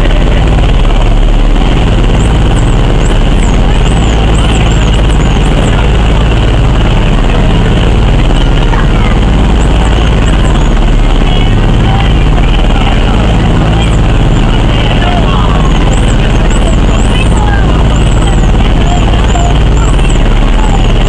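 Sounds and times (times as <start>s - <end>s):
boat engine drone: 0.0s - 21.0s
rush of wind and water: 0.0s - 21.0s.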